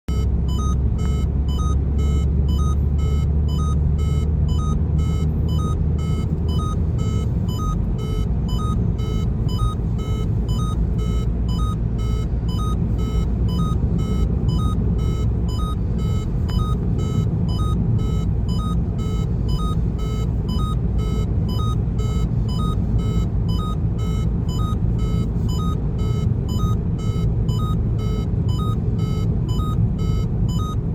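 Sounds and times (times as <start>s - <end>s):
low car rumble: 0.1s - 30.9s
seat belt warning chime: 0.1s - 30.9s.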